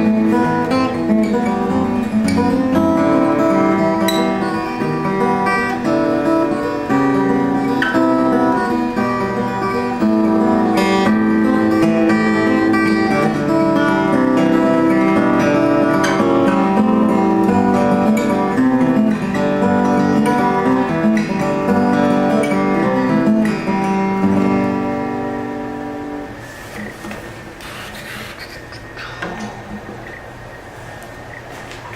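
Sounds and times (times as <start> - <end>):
acoustic guitar strumming: 0.0 - 31.9.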